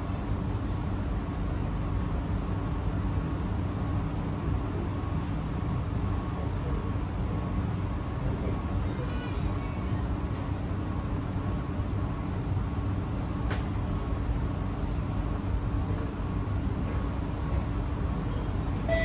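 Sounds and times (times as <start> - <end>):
metro train rumble from inside: 0.0 - 19.0.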